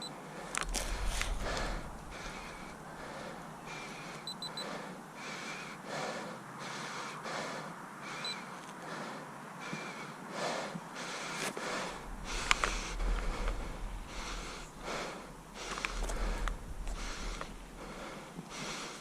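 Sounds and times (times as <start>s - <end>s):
person breathing hard: 0.2s - 19.0s.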